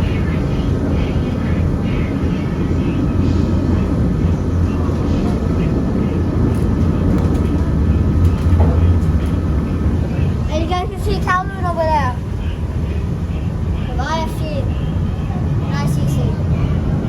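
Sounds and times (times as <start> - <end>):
funicular car rumbling: 0.0 - 17.0.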